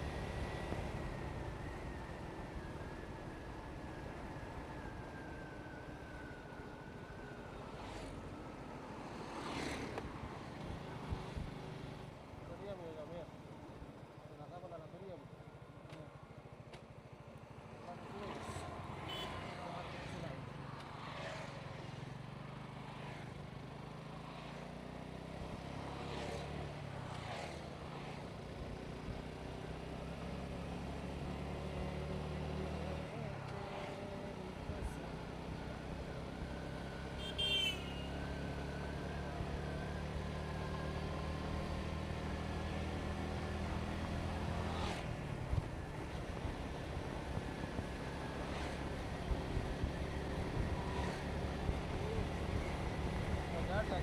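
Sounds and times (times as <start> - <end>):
motorcycle engine and road rumble: 0.0 - 54.0.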